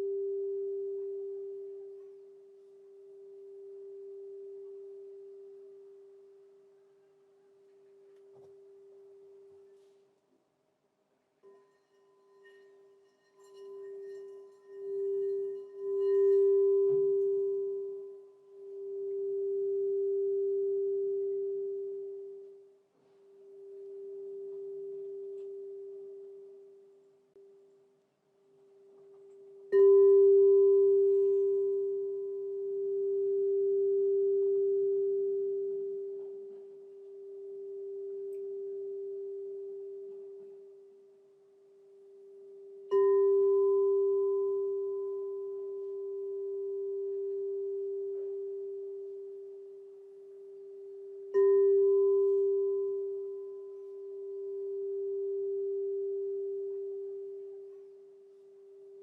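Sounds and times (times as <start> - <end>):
crystal singing bowl ringing: 0.0 - 6.8, 11.4 - 27.2, 28.8 - 59.0.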